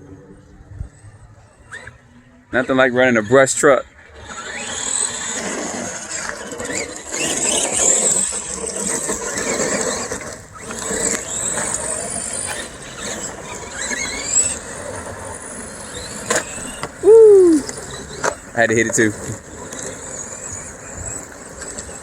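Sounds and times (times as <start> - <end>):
rc truck motors whining: 0.0 - 22.0
tyre noise on pavement: 4.2 - 22.0.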